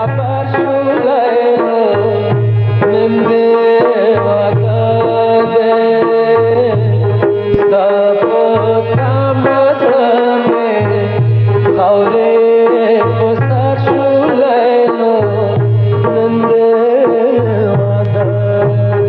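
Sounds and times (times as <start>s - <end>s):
wavering melody: 0.0s - 19.0s.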